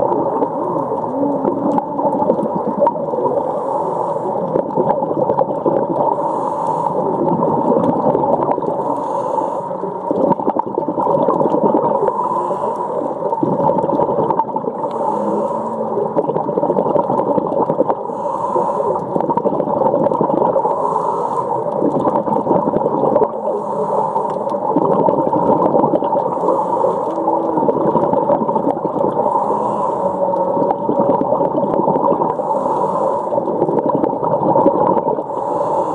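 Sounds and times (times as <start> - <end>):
underwater water noise: 0.0 - 35.9.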